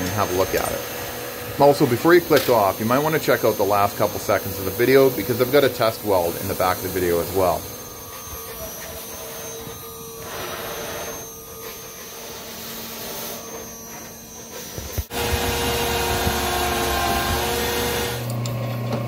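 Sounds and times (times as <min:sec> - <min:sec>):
metal lathe running: 0:00.0 - 0:19.0.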